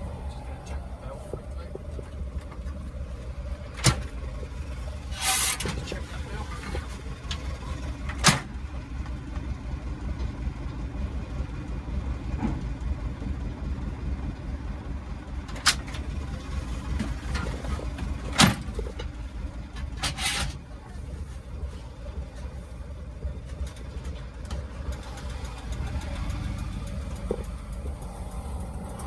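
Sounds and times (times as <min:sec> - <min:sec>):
van engine rumbling: 0:00.0 - 0:29.0.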